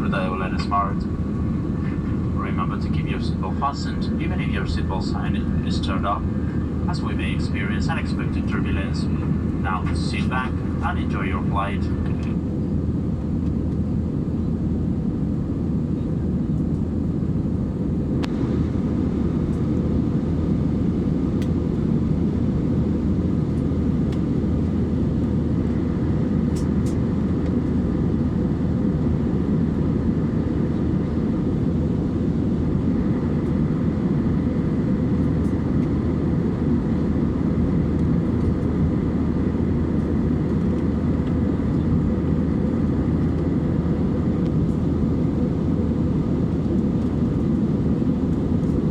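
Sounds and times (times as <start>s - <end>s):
air rushing along fuselage: 0.0s - 48.9s
airliner cabin engine rumble: 0.0s - 48.9s
faint steady whine: 0.0s - 48.9s.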